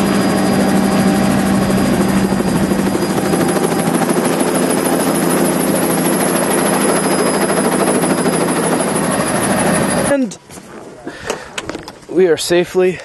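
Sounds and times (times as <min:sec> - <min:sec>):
low hum: 0:00.0 - 0:11.0
helicopter rotor and engine: 0:00.0 - 0:12.0.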